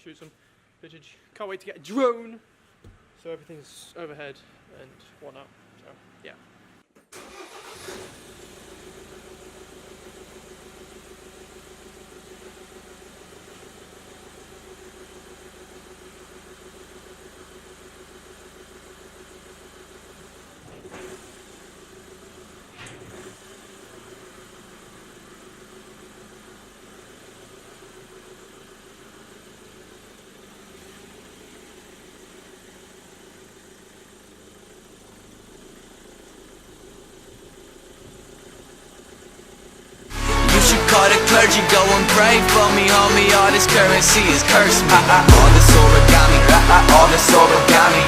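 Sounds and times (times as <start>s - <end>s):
vehicle engine idling: 2.5s - 48.0s.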